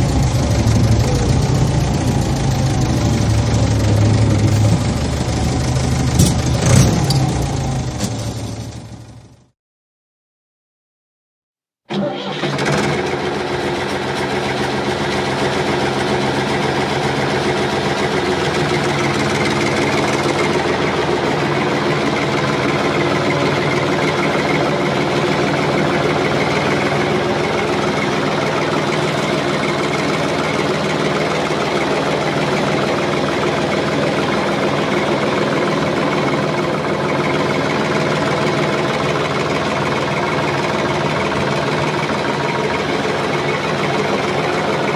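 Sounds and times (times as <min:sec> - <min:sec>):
farm machine engine running: 0:00.0 - 0:09.4, 0:11.9 - 0:44.9.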